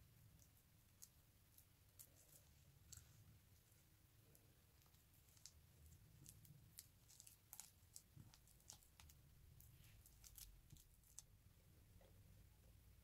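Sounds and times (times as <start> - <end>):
powdery filling crackling and crunching: 0.0 - 11.4.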